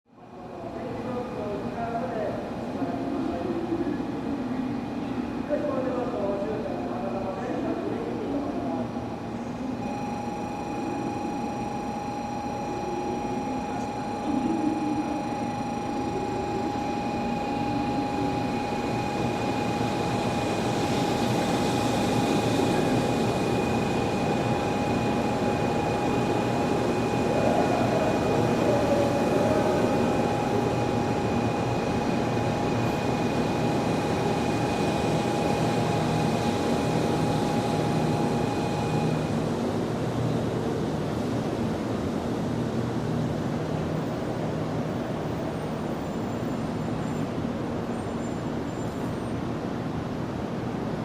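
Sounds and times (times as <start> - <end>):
high steady whine: 0.5 - 47.8.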